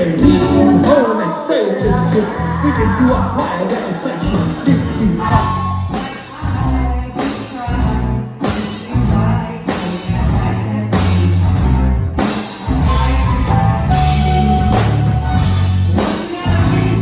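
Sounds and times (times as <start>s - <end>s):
bass guitar: 0.0s - 1.2s, 1.8s - 17.0s
drum kit beat: 0.0s - 17.0s
live band playing: 0.0s - 17.0s.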